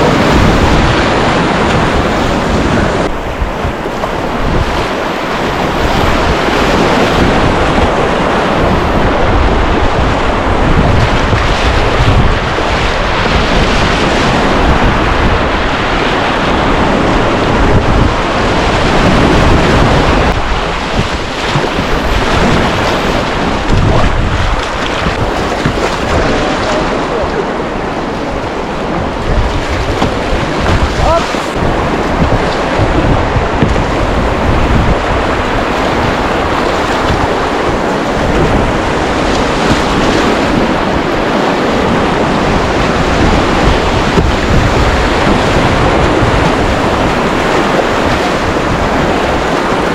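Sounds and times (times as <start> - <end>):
river rapids roaring: 0.0 - 49.9
wind buffeting microphone: 0.0 - 49.9.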